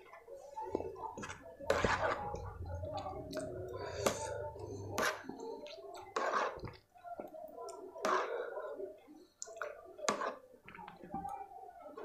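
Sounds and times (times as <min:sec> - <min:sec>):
chewing: 0:00.0 - 0:11.4.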